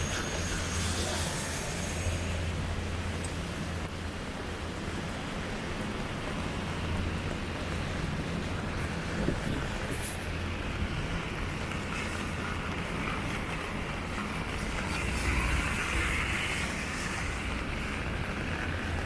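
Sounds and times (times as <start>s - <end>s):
heavy rain on an umbrella: 0.0s - 19.0s
rain splashing on pavement: 0.0s - 19.0s.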